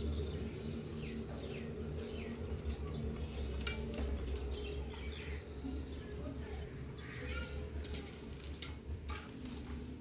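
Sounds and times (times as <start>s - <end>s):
small bird chirping: 0.0s - 8.6s
steady low hum: 0.0s - 9.1s.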